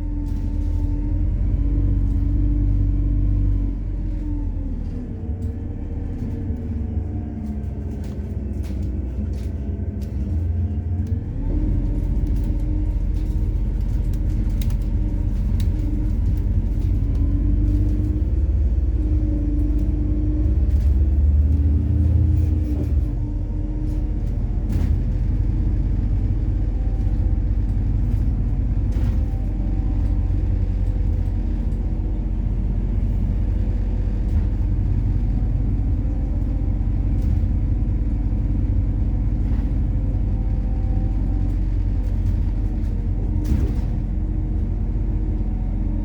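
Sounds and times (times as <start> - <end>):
bus engine drone: 0.0 - 46.0.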